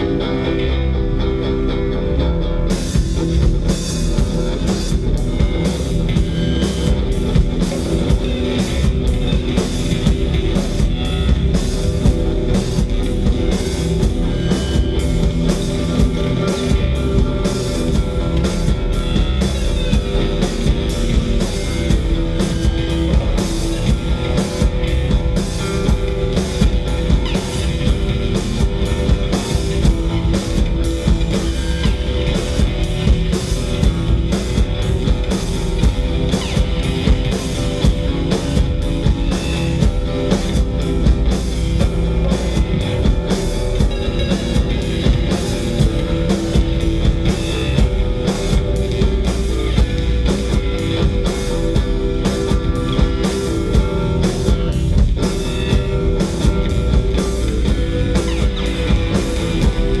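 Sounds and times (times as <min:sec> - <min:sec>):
drums and cymbals: 0:00.0 - 1:00.0.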